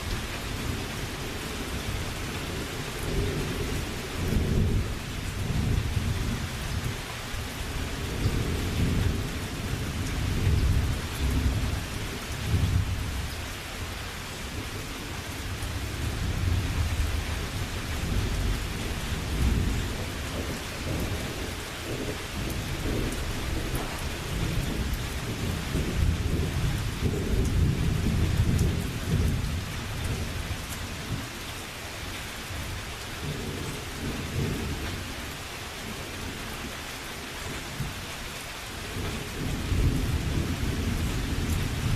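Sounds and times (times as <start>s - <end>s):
low thunder rumbling: 0.0s - 31.2s, 38.8s - 41.9s
steady rain falling: 0.0s - 41.9s.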